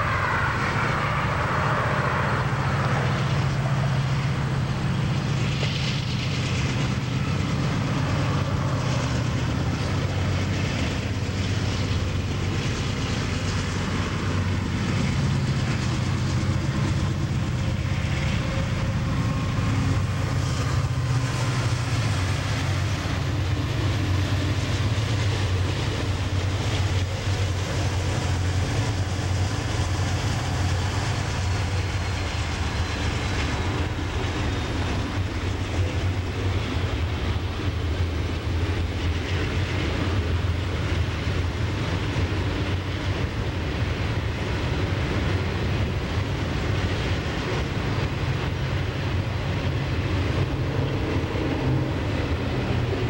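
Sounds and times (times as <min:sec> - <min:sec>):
diesel locomotive engine drone: 0:00.0 - 0:53.0
train wheels rumbling and clicking: 0:00.0 - 0:53.0.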